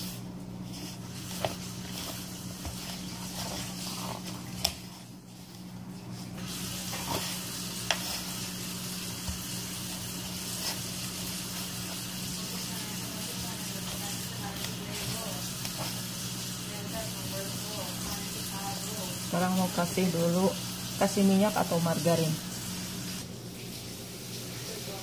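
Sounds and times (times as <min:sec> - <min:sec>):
dough squishing and scraping: 0:00.0 - 0:22.1
low steady hum: 0:00.0 - 0:25.0.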